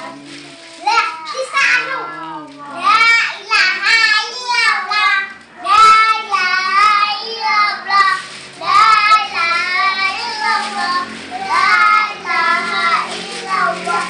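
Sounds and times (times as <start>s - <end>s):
children singing devotional song: 0.0s - 14.0s.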